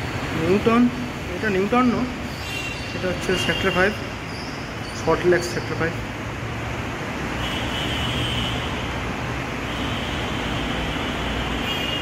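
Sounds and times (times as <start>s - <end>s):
city road traffic hum: 0.0s - 12.0s.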